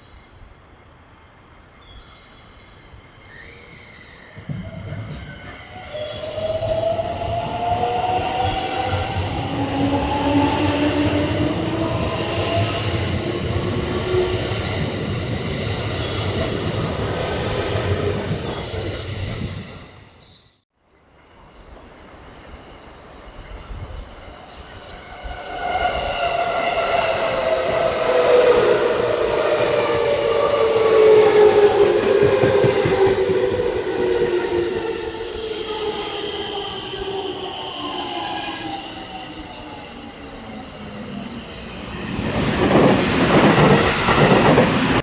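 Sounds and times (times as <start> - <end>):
train wheel and rail rumble: 0.0 - 45.0.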